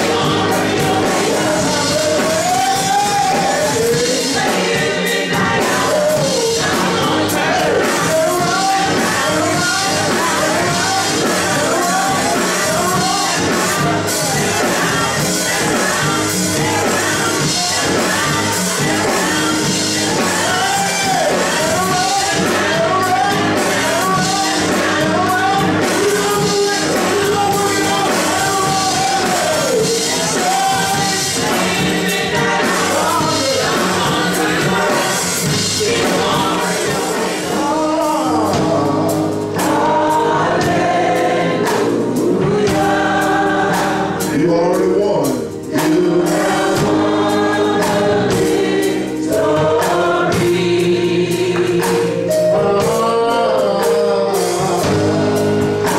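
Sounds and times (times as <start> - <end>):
drums keeping beat: 0.0 - 55.9
gospel choir singing: 0.0 - 55.9.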